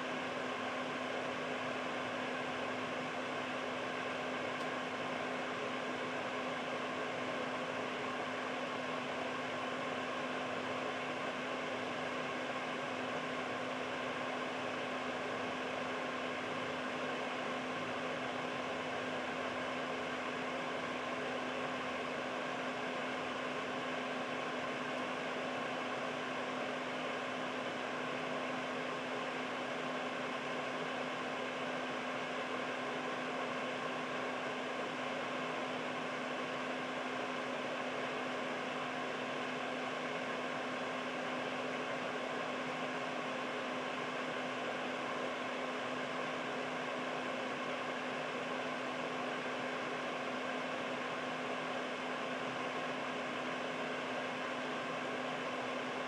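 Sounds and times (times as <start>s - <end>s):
air purifier fan rushing: 0.0s - 56.0s.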